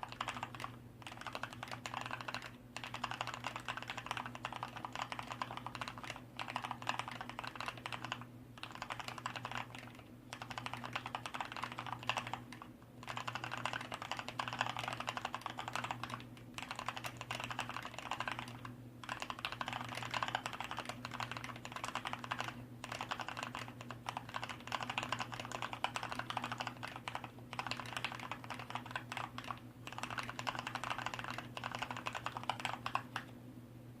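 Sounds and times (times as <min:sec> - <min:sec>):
mechanical keyboard typing: 0:00.0 - 0:33.3.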